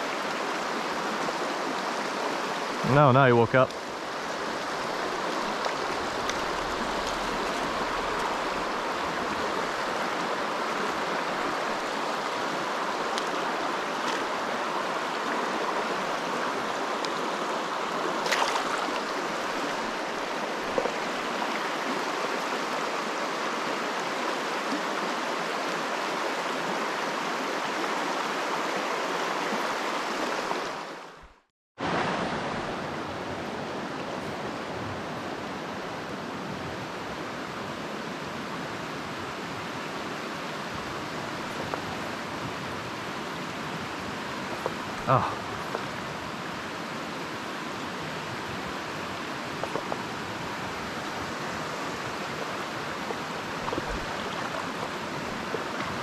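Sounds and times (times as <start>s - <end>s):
rushing river over rocks: 0.0s - 56.0s.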